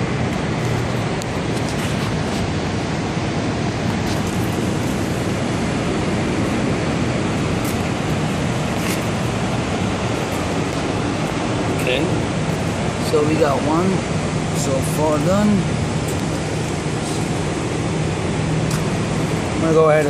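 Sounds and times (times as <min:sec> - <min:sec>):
low hum: 0:00.0 - 0:20.0
steady rushing hiss: 0:00.0 - 0:20.0.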